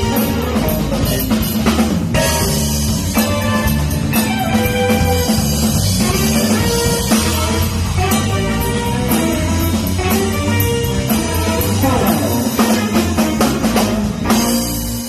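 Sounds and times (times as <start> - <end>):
band playing funk instrumental: 0.0 - 15.0
drum fill: 0.0 - 15.0.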